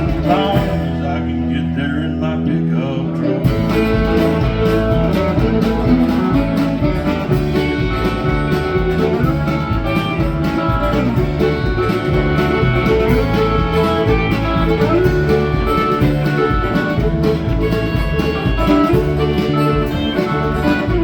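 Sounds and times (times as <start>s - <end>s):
country guitars playing: 0.0s - 21.0s
repeating bass line: 0.0s - 21.0s.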